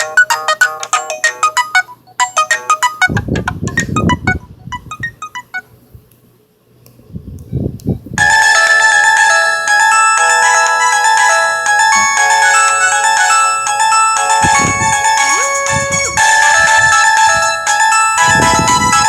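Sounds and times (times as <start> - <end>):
phone ringtone melody: 0.0 - 5.7, 8.2 - 19.0.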